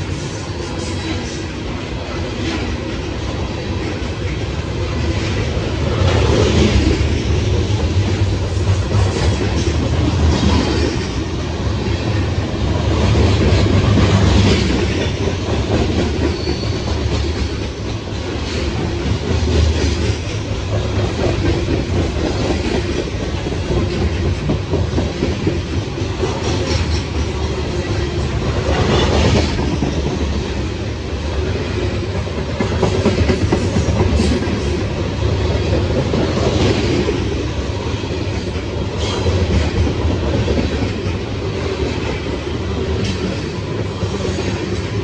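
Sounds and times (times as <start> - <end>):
train cars rumbling past: 0.0 - 45.0.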